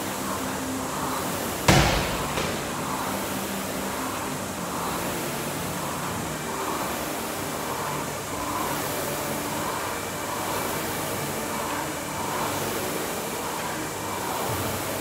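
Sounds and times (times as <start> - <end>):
rowing machine flywheel whirring: 0.0 - 15.0.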